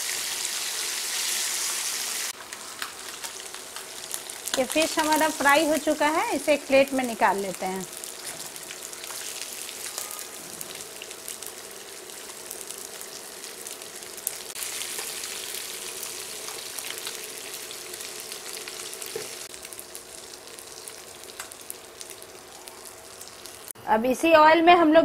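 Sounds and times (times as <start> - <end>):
fish sizzling in hot oil: 0.0 - 23.8.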